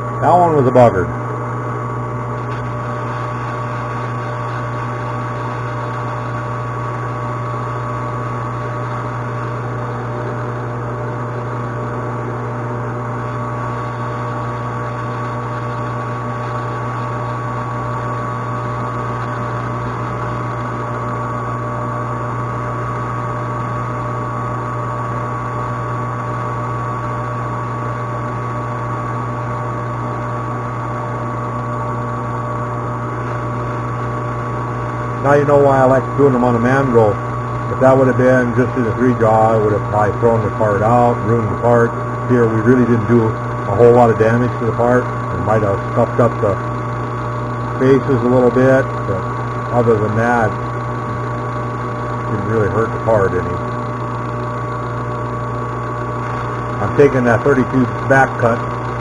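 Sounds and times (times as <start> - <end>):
metal lathe running: 0.0 - 59.0.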